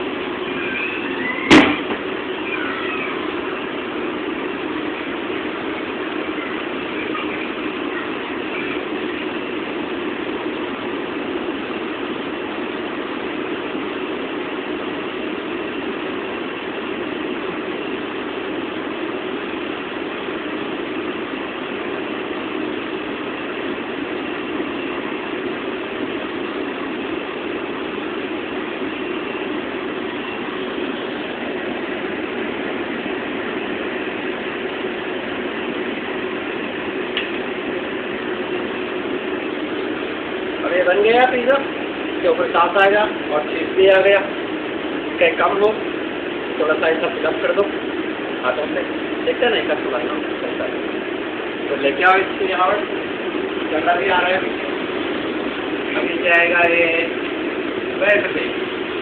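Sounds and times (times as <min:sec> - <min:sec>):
motor or fan humming: 0:00.0 - 0:59.0.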